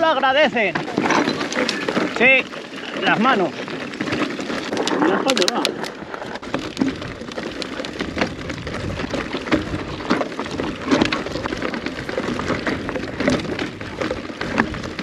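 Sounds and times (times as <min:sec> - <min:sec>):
bike clicks and rattles: 0:00.0 - 0:15.0
bike tyres crackling on gravel: 0:00.0 - 0:15.0.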